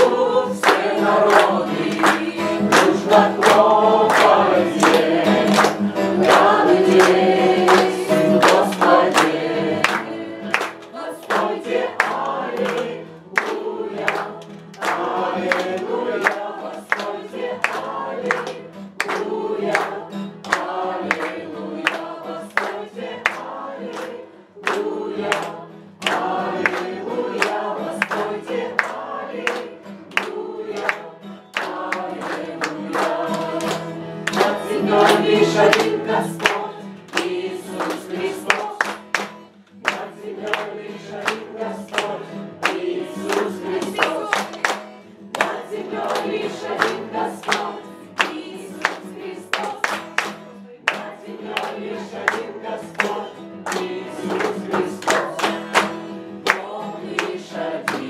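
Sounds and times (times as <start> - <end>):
congregation singing praise song: 0.0 - 58.0
hand-clapping on the beat: 0.0 - 58.0.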